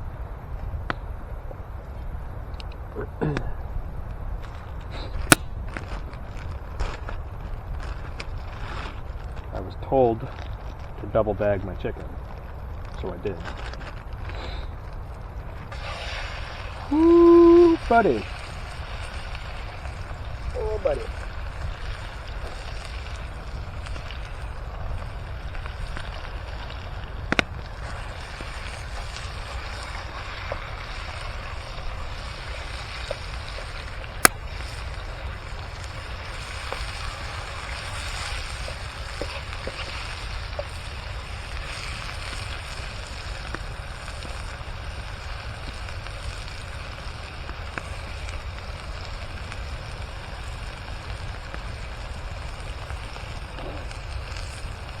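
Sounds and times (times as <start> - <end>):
campfire pops: 4.4 - 9.6, 12.3 - 55.0.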